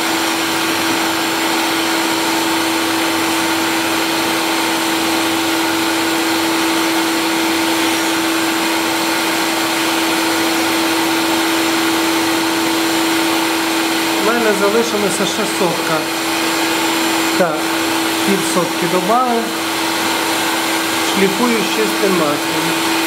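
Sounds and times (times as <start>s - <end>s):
grinding wheel humming and hissing: 0.0s - 23.0s.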